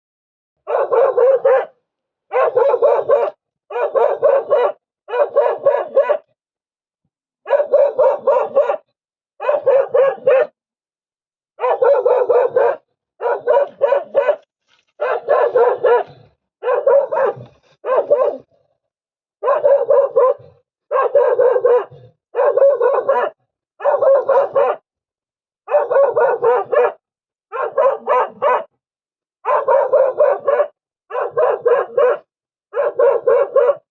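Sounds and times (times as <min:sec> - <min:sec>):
dog barking: 0:00.6 - 0:06.4, 0:07.4 - 0:10.6, 0:11.6 - 0:18.7, 0:19.4 - 0:24.9, 0:25.6 - 0:28.8, 0:29.4 - 0:33.9.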